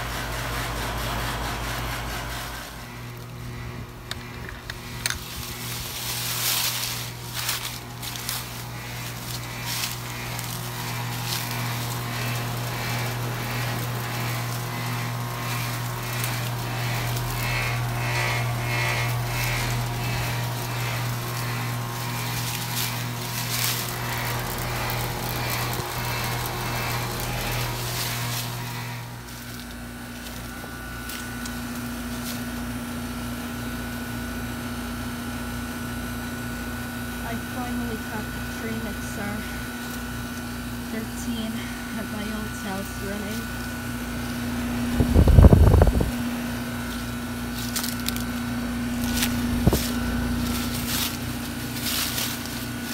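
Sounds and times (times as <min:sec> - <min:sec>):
compressor hum: 0:00.0 - 0:52.9
heat pump whine: 0:00.0 - 0:52.9
low pulsing fan: 0:00.0 - 0:52.9.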